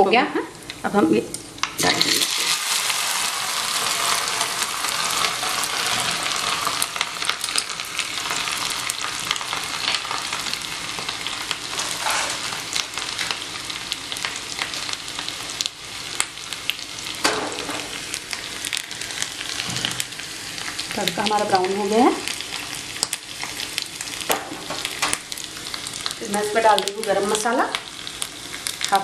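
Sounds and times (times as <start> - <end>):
paste sizzling in hot oil: 1.8 - 29.0.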